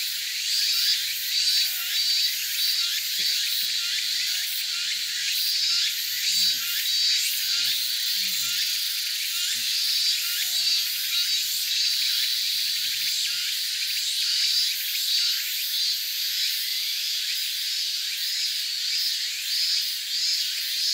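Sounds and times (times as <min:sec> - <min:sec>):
insects buzzing: 0:00.0 - 0:20.9.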